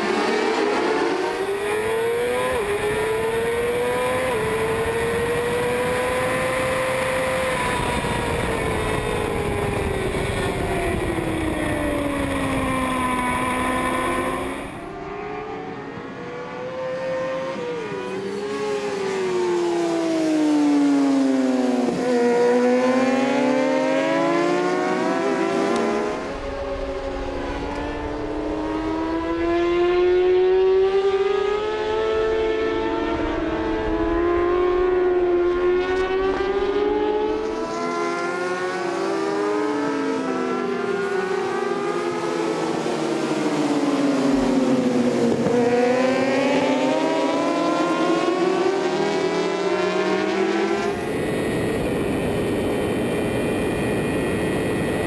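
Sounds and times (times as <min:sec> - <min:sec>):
racing motorcycles at high revs: 0:00.0 - 0:55.0.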